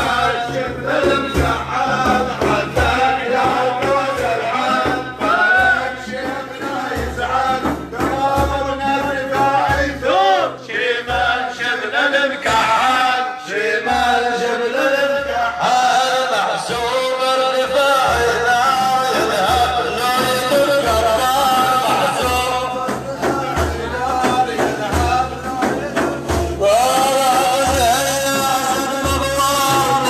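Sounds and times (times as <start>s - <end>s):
low drum beats: 0.0s - 30.0s
man singing devotional song: 0.0s - 30.0s.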